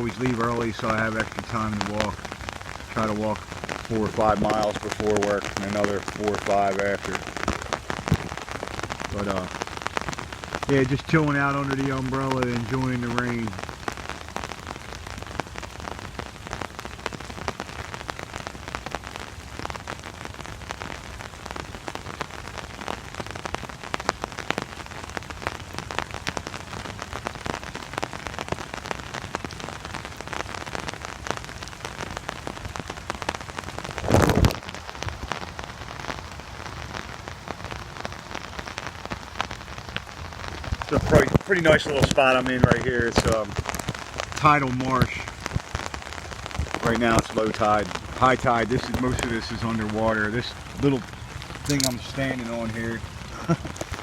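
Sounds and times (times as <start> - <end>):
rain pattering on umbrella: 0.0 - 54.0.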